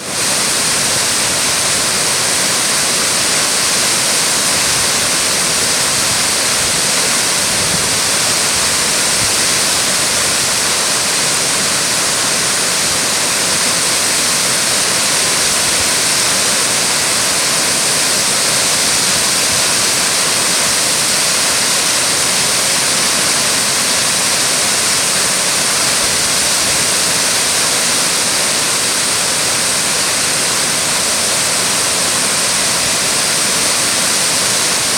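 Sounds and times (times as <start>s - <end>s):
waterfall pouring: 0.0s - 34.9s.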